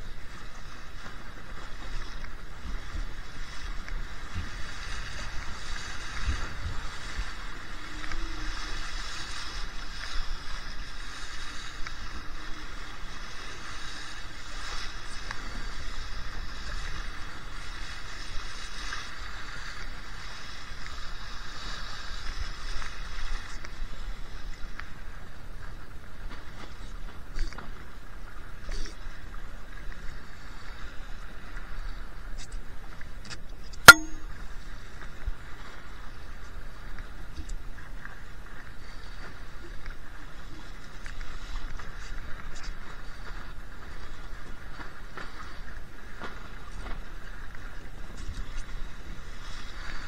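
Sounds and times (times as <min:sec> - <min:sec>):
water rushing along boat hull: 0:00.0 - 0:50.0
wind rumbling on microphone: 0:00.0 - 0:50.0.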